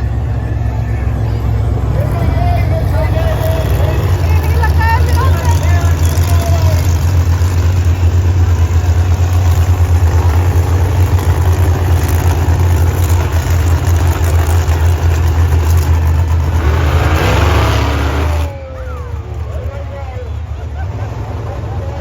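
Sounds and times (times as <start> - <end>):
large vehicle engine running: 0.0 - 22.0.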